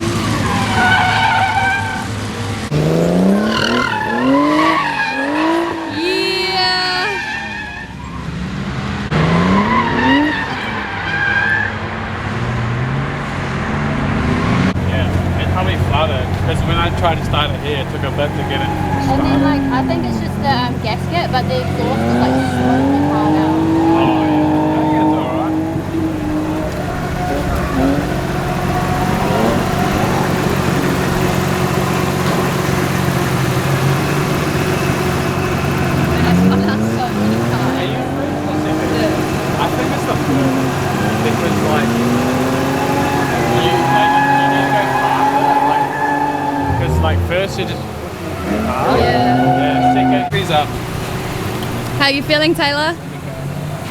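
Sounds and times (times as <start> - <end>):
car engine revving: 0.0 - 53.9
tyres skidding: 0.0 - 53.9.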